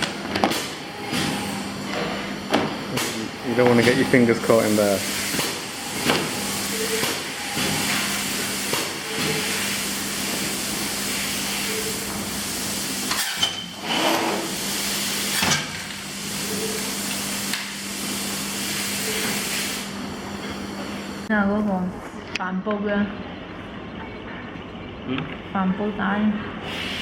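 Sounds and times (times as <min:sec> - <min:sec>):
factory machinery hissing and humming: 0:00.0 - 0:21.3, 0:26.4 - 0:27.0.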